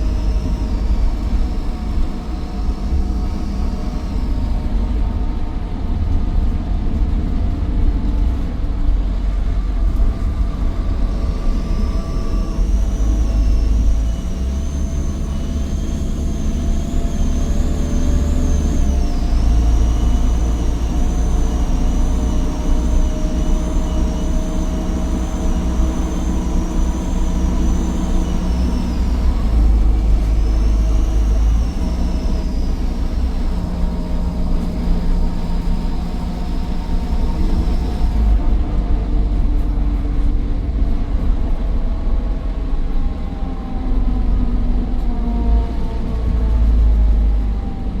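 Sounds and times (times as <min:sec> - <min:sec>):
diesel bus engine rumble: 0:00.0 - 0:48.0
turbocharger whine: 0:00.0 - 0:48.0.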